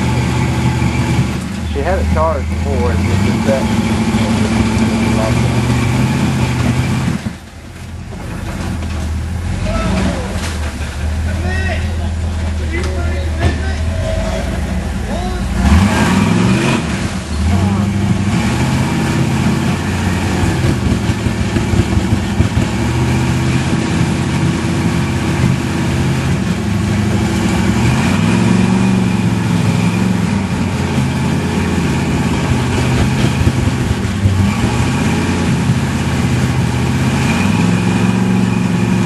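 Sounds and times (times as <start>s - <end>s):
truck engine under load: 0.0s - 39.0s.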